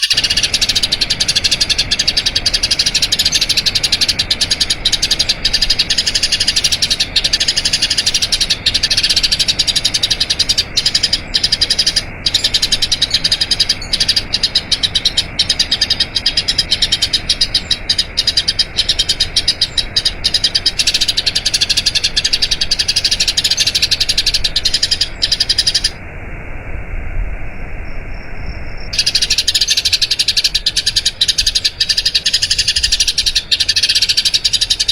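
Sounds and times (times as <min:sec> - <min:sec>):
sparrow chirping: 0:00.0 - 0:26.0, 0:29.0 - 0:34.9.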